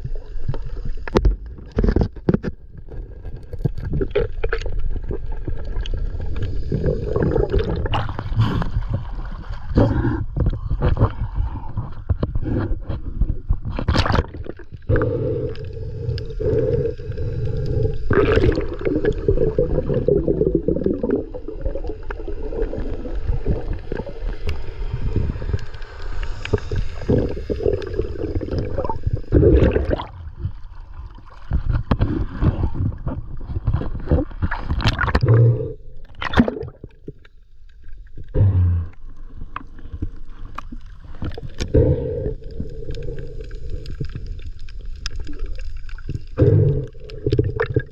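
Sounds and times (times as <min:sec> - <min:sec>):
water gurgling and sloshing: 0:00.0 - 0:47.9.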